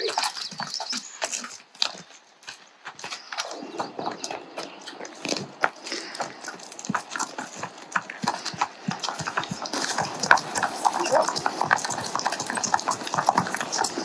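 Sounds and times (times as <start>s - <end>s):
hooves clopping on asphalt: 0.0s - 14.0s.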